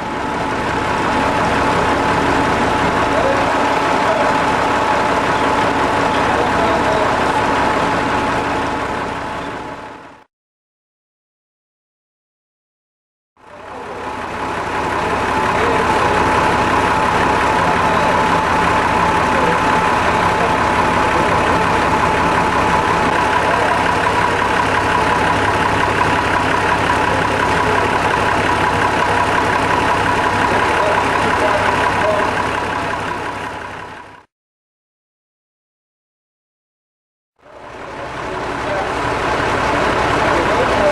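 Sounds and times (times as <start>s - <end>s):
diesel locomotive idling: 0.0s - 10.3s, 13.4s - 34.3s, 37.4s - 40.9s.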